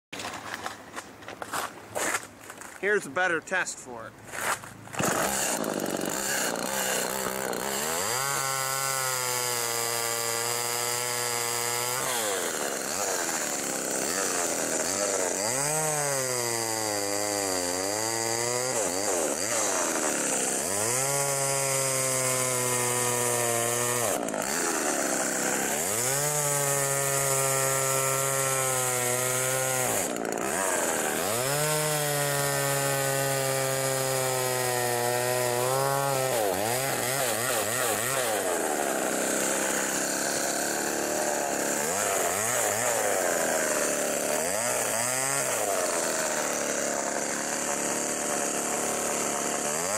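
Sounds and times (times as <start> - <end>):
chainsaw cutting log: 0.2 - 49.9.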